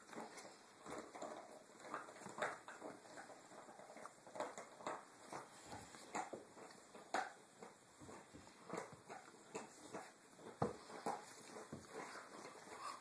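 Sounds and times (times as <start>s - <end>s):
dogs scuffling and mouthing: 0.0s - 13.0s.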